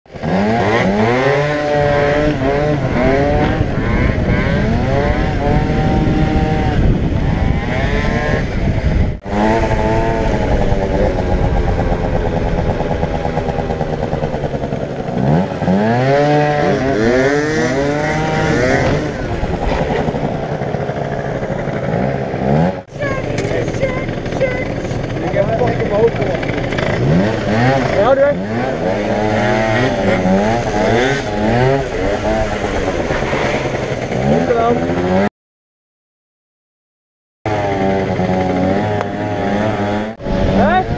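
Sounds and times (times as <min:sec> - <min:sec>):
scooter engine accelerating: 0:00.1 - 0:35.3, 0:37.5 - 0:40.9.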